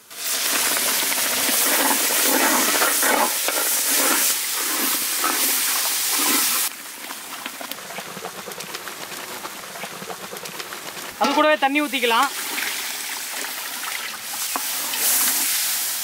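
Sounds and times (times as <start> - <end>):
paste sizzling in hot oil: 0.0 - 16.0
ladle stirring in pot: 0.3 - 15.6.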